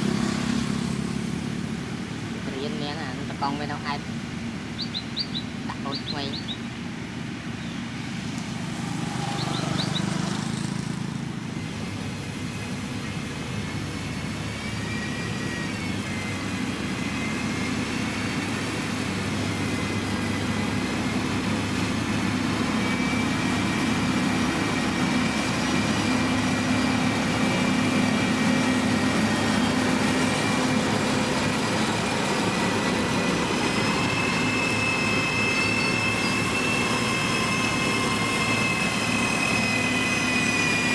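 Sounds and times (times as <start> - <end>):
diesel engine running: 0.0 - 40.9
high whine: 0.0 - 40.9.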